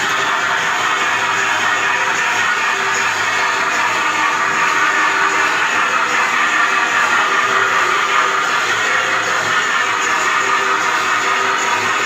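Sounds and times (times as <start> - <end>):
grinder grinding metal: 0.0 - 12.0.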